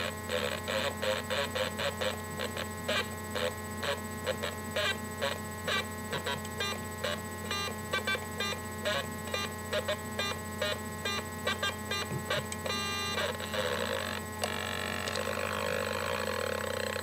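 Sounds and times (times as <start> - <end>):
buzzy electronic blips: 0.0 - 17.0
warbling buzzing tone: 0.0 - 17.0.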